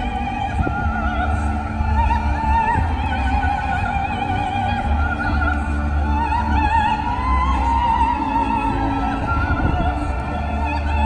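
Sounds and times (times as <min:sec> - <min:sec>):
operatic singing with vibrato: 0:00.0 - 0:11.0.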